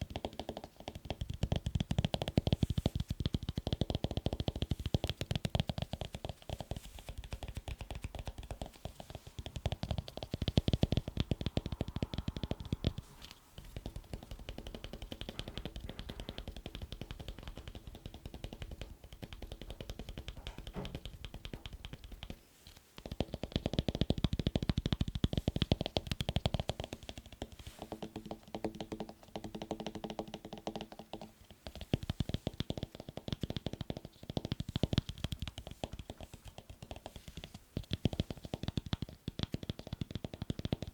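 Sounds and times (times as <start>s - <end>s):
fingertips tapping on hard objects: 0.0s - 40.9s.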